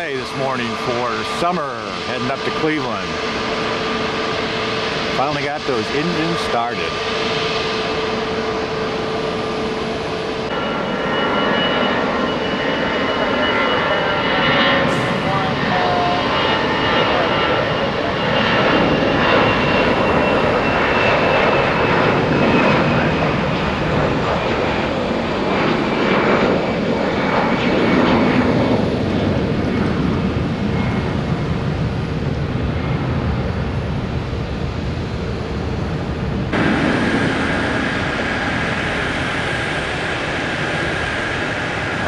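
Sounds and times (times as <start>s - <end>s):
jet engines roaring at takeoff: 0.0s - 42.0s
taxiing jet engine noise: 0.0s - 42.0s.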